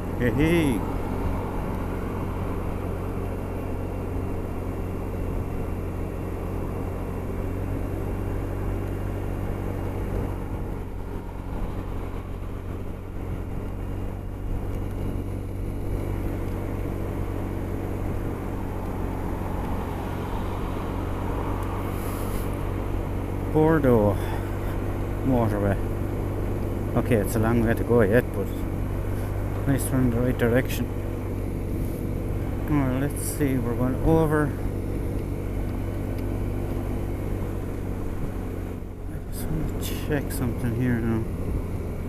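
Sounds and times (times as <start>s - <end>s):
road noise: 0.0s - 42.0s
scooter engine cruising: 0.0s - 42.0s.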